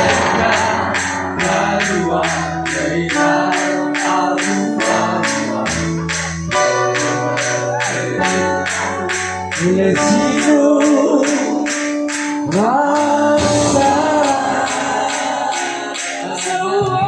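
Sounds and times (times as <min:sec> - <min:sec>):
bass and keyboard notes: 0:00.0 - 0:17.0
person singing: 0:00.0 - 0:17.0
sharp percussion beat: 0:00.0 - 0:17.0.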